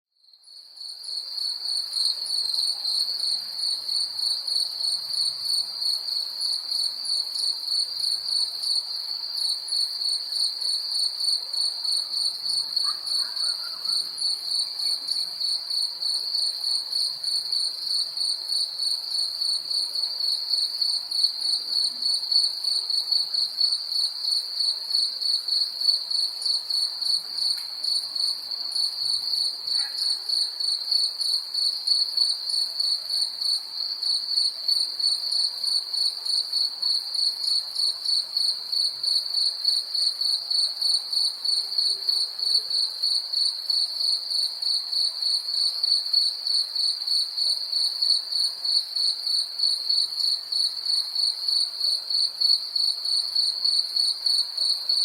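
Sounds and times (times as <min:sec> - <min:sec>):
cricket chirping: 0:00.2 - 0:55.0.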